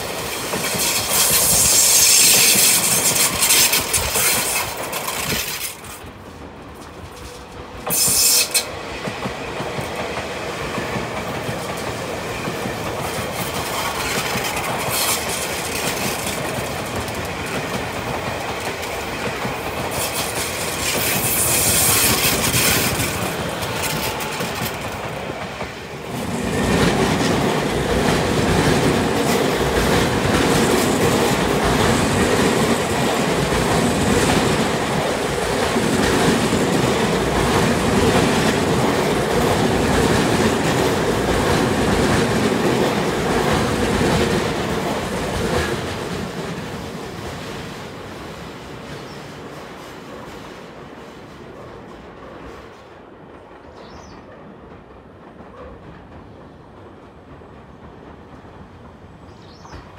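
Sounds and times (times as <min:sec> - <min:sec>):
train wheels clattering over rail joints: 0:00.0 - 0:50.7.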